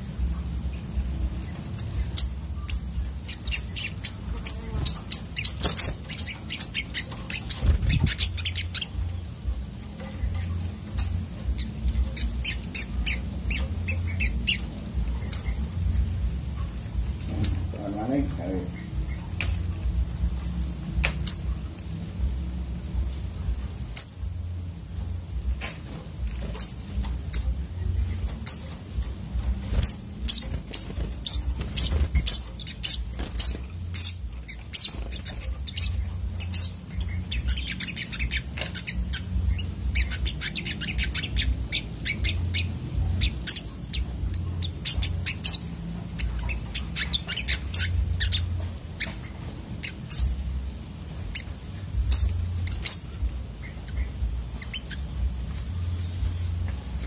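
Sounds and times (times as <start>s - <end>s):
birds chirping: 0.0s - 57.0s
sunbirds chipping: 0.0s - 57.0s.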